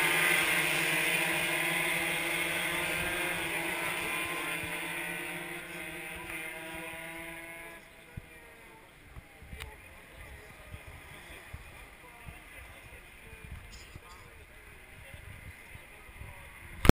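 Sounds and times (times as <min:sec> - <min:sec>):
motorcycle engines running together: 0:00.0 - 0:16.9.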